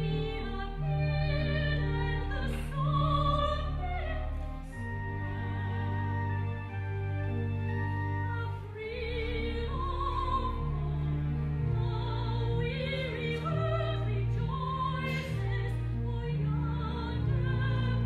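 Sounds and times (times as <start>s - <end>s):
soprano singing operatically: 0.0s - 6.6s, 8.2s - 18.0s
instrumental accompaniment: 0.0s - 18.0s.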